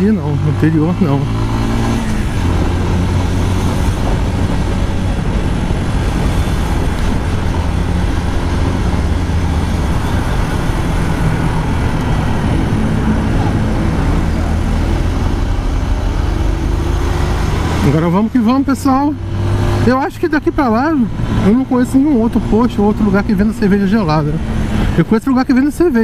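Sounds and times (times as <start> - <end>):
motorcycle engine running: 0.0 - 25.0
surrounding traffic: 0.0 - 26.0
wind and road noise: 0.0 - 26.0.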